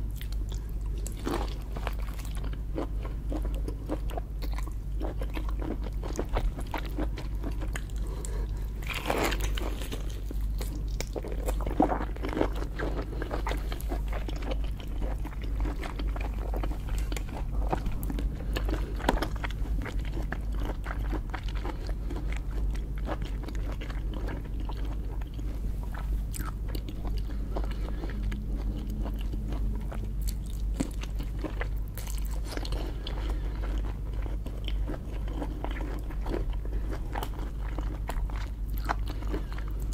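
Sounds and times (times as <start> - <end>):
person chewing and crunching: 0.0 - 39.9
steady low hum: 0.0 - 39.9.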